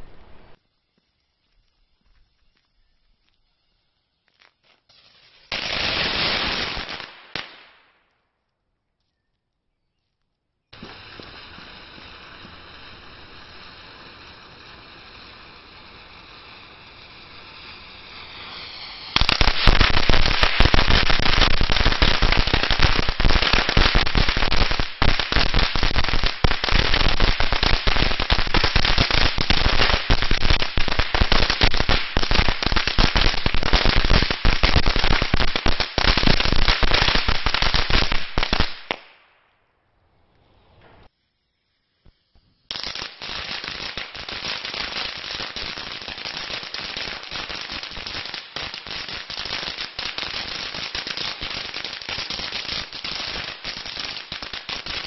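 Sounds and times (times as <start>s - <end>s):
steady hiss: 0.0s - 7.6s, 10.7s - 55.0s.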